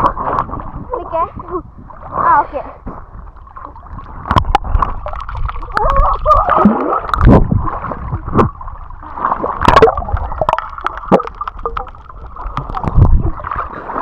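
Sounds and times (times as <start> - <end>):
muffled underwater gurgling: 0.0 - 14.0
sharp knocks and splashes: 2.0 - 14.0.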